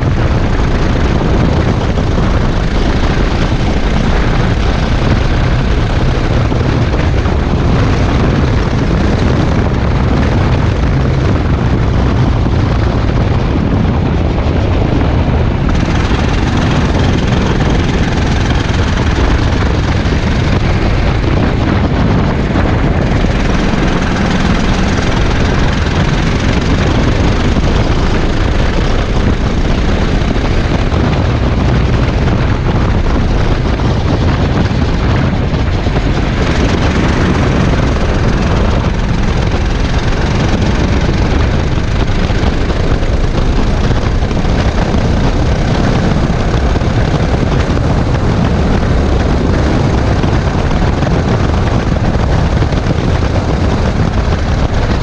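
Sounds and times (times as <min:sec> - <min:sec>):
go-kart engine running hard: 0:00.0 - 0:55.0
wind noise on microphone: 0:00.0 - 0:55.0.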